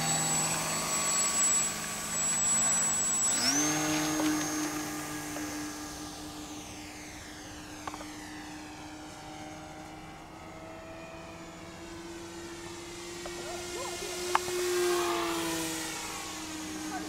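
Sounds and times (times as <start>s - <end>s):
model plane electric motor whine: 0.0s - 17.0s.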